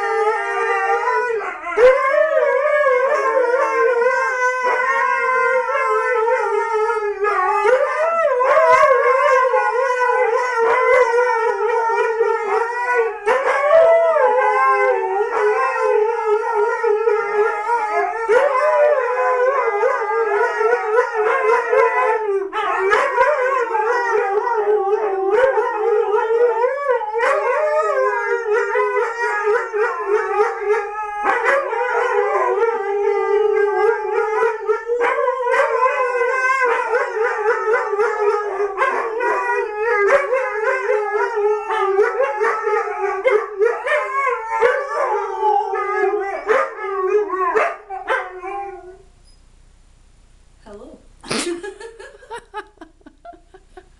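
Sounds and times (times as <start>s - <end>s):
husky howling: 0.0s - 49.0s.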